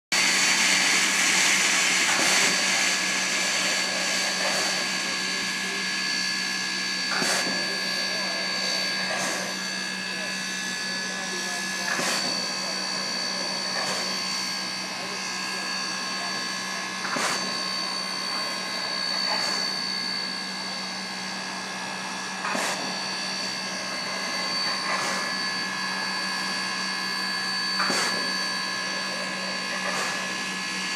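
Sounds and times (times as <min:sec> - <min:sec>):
high even whine: 0:00.2 - 0:30.9
steam locomotive venting steam: 0:00.2 - 0:30.9.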